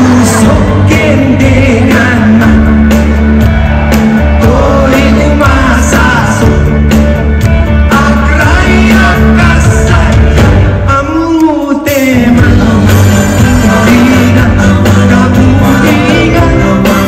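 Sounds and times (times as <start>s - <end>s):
man singing: 0.0s - 3.4s, 4.2s - 7.0s, 7.6s - 17.0s
electric bass line: 0.0s - 11.3s, 11.9s - 17.0s
pop-rock band playing: 0.0s - 17.0s.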